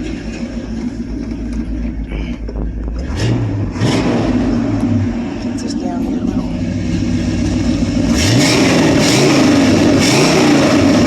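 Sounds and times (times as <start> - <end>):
pickup engine revving: 0.0 - 11.0.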